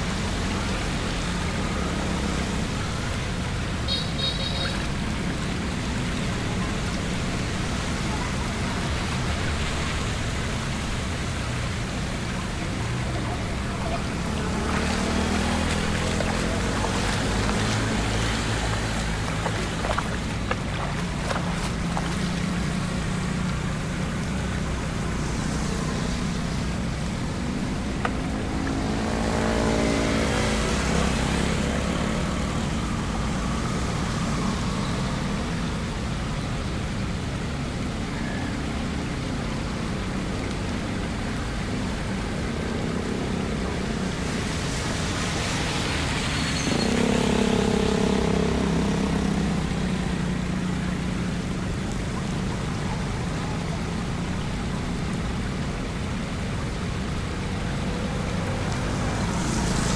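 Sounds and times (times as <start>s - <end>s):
vehicle engines running: 0.0s - 59.9s
vehicles driving through water: 0.0s - 59.9s
wash of water: 0.0s - 59.9s.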